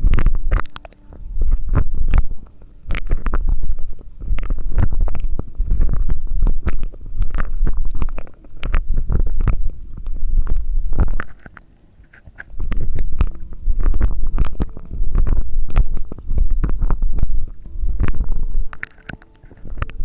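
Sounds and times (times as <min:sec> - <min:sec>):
mouth sounds with clicks: 0:00.0 - 0:20.0.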